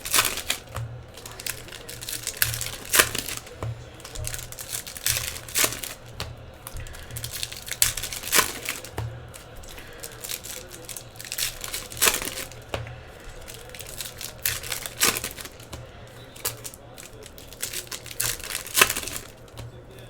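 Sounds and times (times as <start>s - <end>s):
card pack wrappers crinkling: 0.0s - 20.0s.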